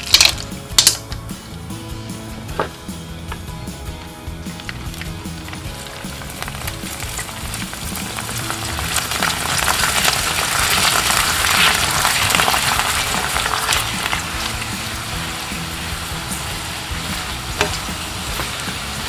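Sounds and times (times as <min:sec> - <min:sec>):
prawn crackers sizzling in oil: 0:00.0 - 0:01.0, 0:04.5 - 0:19.0.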